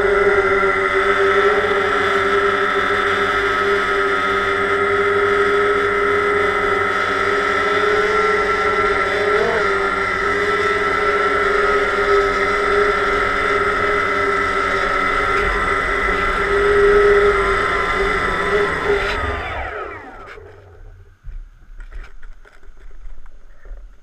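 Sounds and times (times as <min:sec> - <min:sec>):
drone propellers whining: 0:00.0 - 0:22.6.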